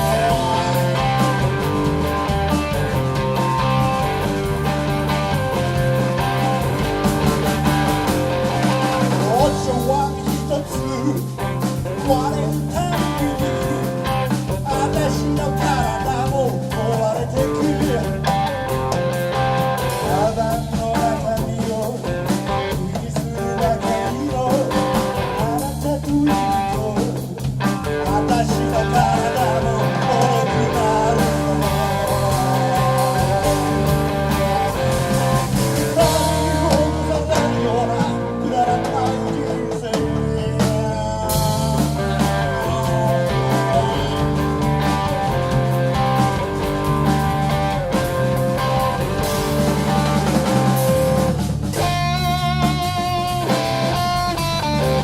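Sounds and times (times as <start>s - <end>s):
person singing: 0.0s - 18.8s, 19.8s - 55.0s
bass notes: 0.0s - 55.0s
electric guitar: 0.0s - 55.0s.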